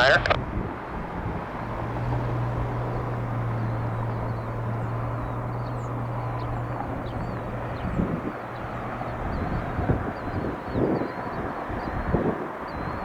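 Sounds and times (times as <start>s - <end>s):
jet engines rushing: 0.0s - 13.0s
small birds chirping: 1.4s - 13.0s.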